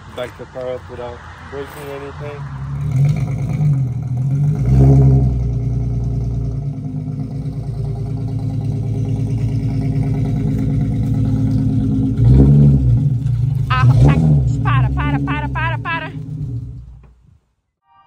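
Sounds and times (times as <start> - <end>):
car engine running at low revs: 2.6 - 17.4.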